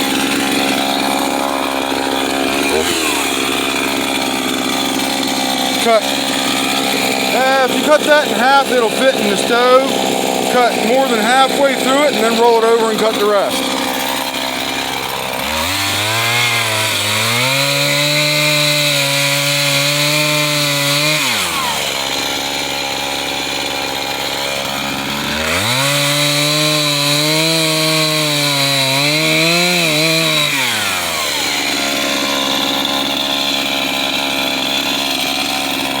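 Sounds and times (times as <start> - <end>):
chainsaw cutting log: 0.0 - 36.0
chainsaw engine revving: 0.0 - 36.0.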